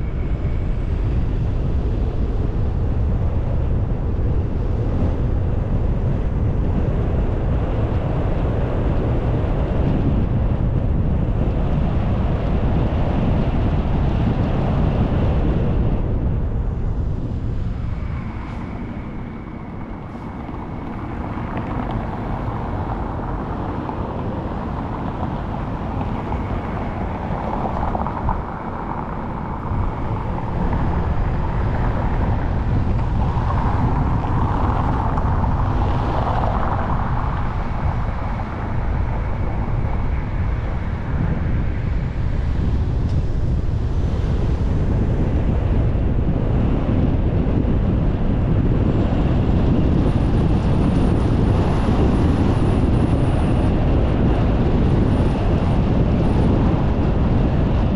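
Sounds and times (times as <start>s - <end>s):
car tyre and wind noise: 0.0s - 57.9s.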